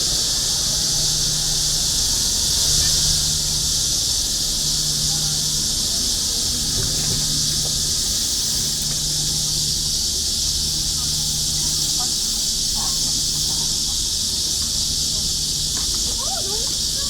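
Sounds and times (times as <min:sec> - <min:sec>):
cicadas chorus: 0:00.0 - 0:17.0
city traffic hum: 0:00.0 - 0:17.0.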